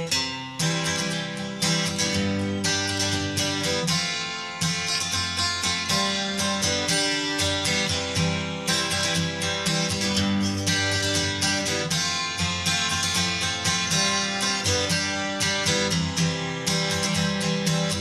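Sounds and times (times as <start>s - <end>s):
strummed guitar music: 0.0s - 18.0s.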